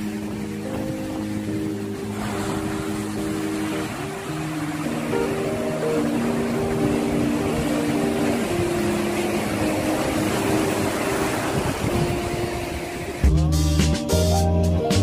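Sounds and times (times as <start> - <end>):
sea waves breaking: 0.0 - 13.4
soft background music: 0.0 - 15.0.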